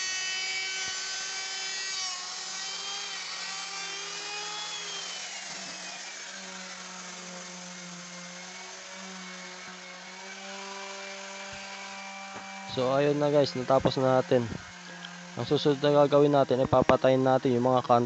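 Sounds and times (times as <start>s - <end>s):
electric router whining: 0.0s - 18.0s.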